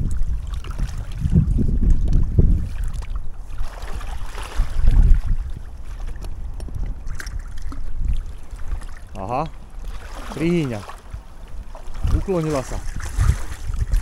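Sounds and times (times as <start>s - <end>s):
water sloshing around waders: 0.0s - 14.0s
wind rumbling on microphone: 0.0s - 14.0s.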